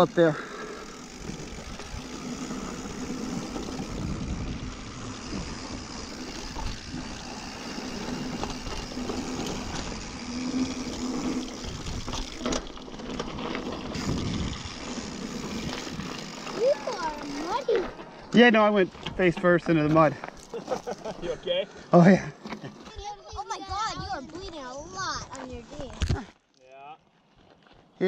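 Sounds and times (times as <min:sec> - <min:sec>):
bike rattling: 0:00.0 - 0:21.4, 0:22.1 - 0:26.2
tyre and wind noise: 0:01.0 - 0:21.3, 0:22.5 - 0:26.3.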